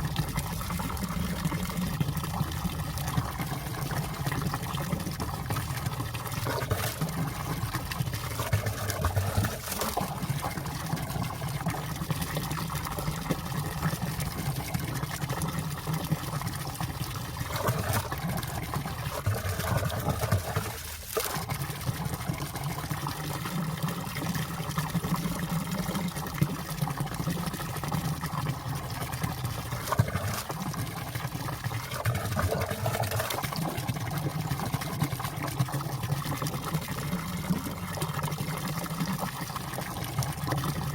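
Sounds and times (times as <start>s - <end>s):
small water splashes: 0.0s - 40.9s
stream water trickling and burbling: 0.0s - 40.9s.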